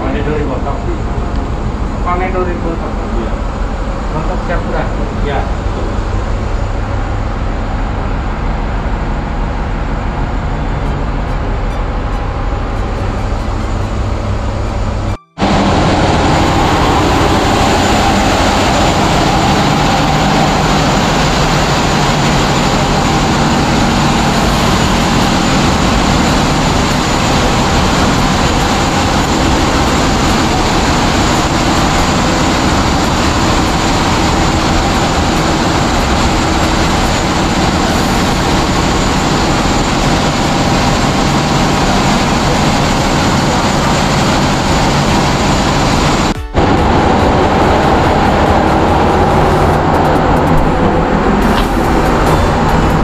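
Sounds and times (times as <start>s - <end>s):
diesel engines droning: 0.0s - 53.0s.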